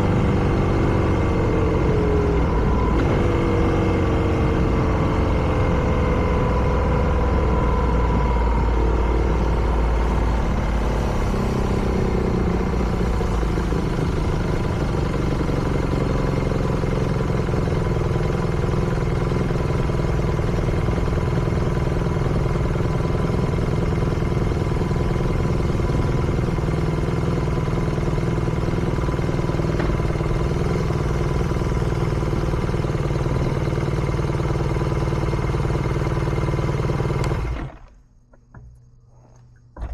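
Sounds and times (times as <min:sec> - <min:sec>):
motorcycle engine running: 0:00.0 - 0:38.7.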